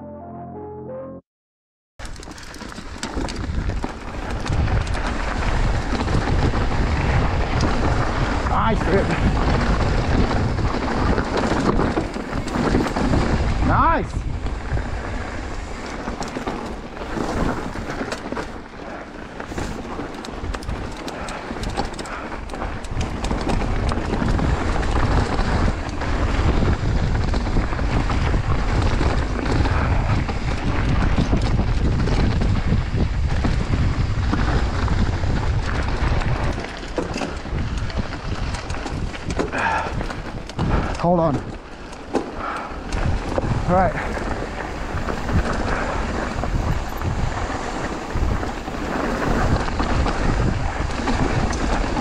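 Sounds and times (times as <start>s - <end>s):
bike knocks and rattles: 2.0s - 52.0s
wind buffeting microphone: 2.2s - 52.0s.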